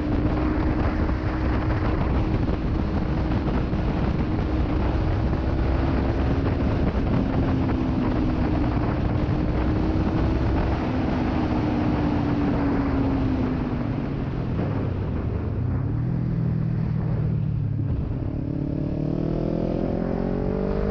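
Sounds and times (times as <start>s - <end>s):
motorcycle engine at speed: 0.0s - 20.9s
wind and road noise: 0.0s - 20.9s.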